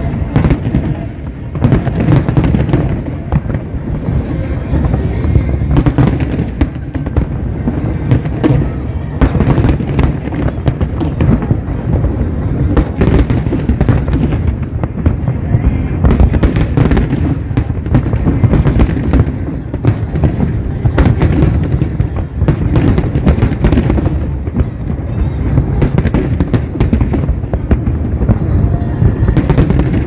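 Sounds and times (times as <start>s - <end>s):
deep rumble of fireworks bursts: 0.0s - 30.0s
fireworks cracks and crackles: 0.0s - 30.0s.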